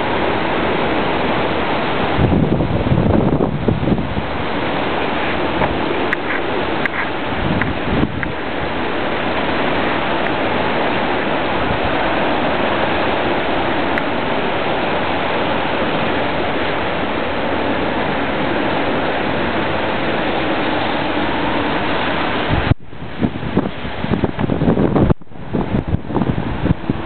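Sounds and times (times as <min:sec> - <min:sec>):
wind and rain rushing: 0:00.0 - 0:27.0.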